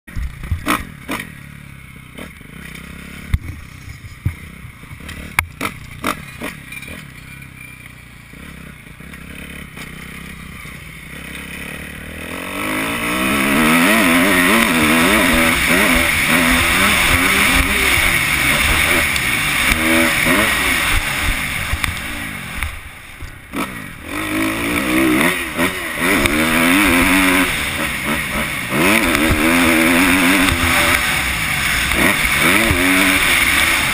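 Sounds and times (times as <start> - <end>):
engine knocks and clatter: 0.1 - 12.0, 13.3 - 33.9
motorcycle engine revving: 0.1 - 33.9.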